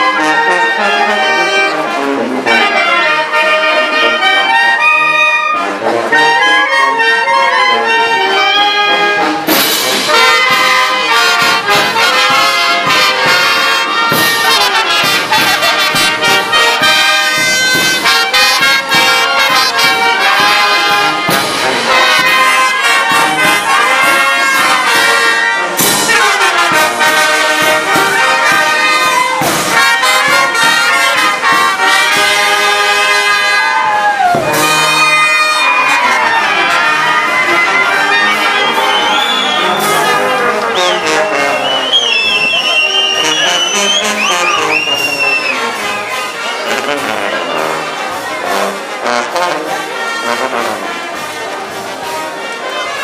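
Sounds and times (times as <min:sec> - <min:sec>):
brass band playing dance tune: 0:00.0 - 0:53.0.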